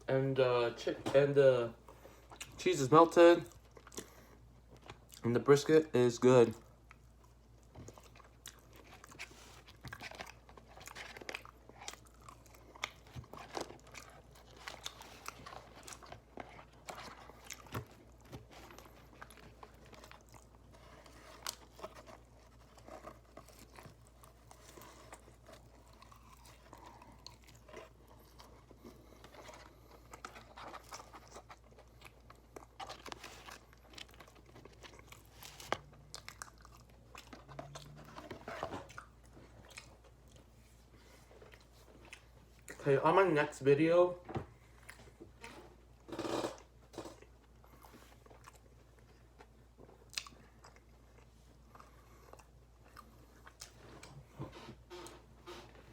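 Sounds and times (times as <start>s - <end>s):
wet chewing and crunching: 1.8s - 55.9s.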